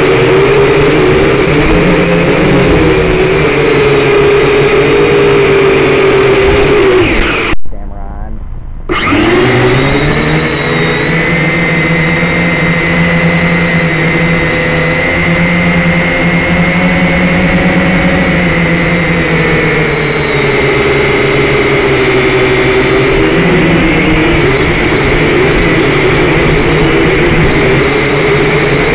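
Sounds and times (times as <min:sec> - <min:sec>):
drone motors whining: 0:00.0 - 0:07.6, 0:08.4 - 0:28.9.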